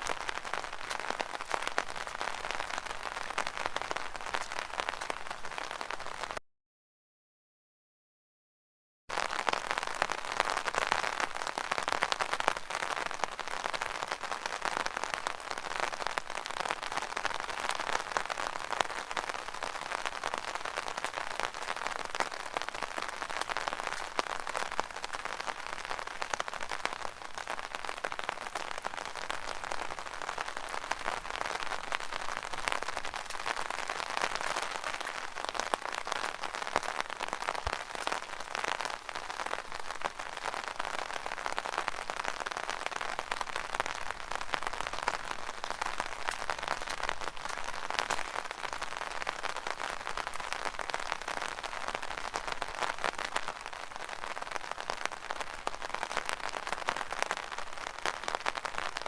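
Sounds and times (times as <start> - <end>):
rain pattering on umbrella: 0.0 - 6.4, 9.1 - 59.0.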